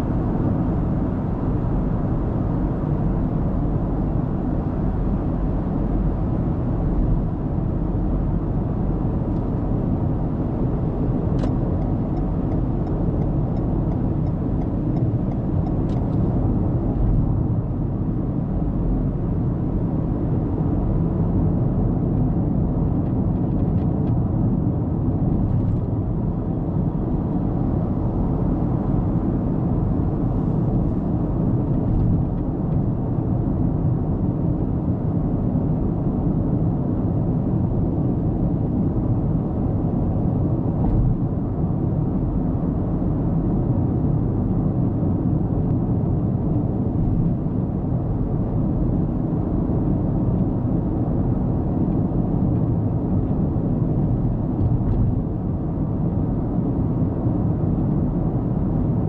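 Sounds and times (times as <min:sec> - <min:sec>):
car road and tyre noise: 0:00.0 - 0:59.0.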